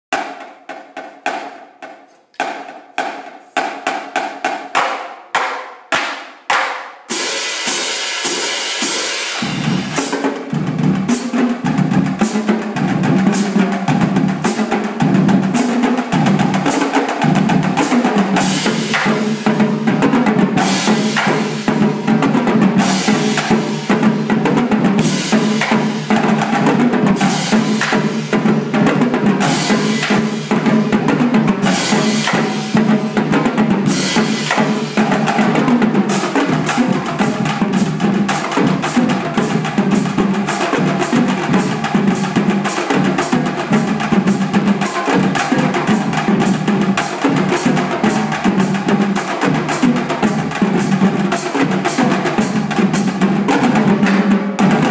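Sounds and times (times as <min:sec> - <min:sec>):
marching drumline playing: 0:00.1 - 0:54.9.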